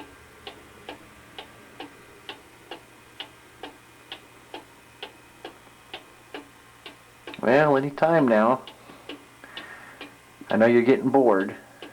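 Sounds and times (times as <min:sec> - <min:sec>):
cuckoo clock ticking: 0:00.0 - 0:07.4, 0:08.2 - 0:11.9.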